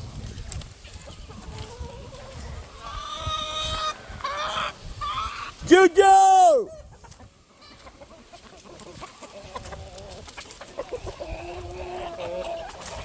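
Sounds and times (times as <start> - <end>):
chickens clucking: 0.0 - 5.7, 6.7 - 13.0.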